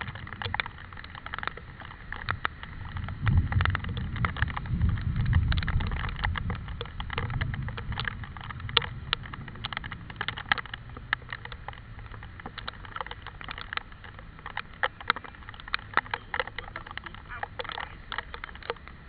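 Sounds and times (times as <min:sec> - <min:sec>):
raindrops ticking on hard surface: 0:00.0 - 0:19.0
wind rumble on microphone: 0:00.0 - 0:19.0.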